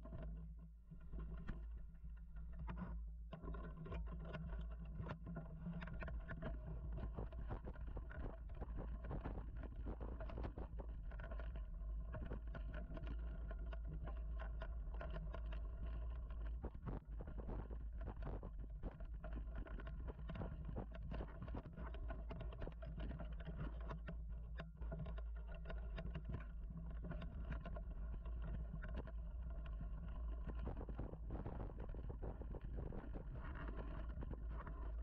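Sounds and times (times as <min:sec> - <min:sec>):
bike rolling with low rumble: 0:00.0 - 0:35.0.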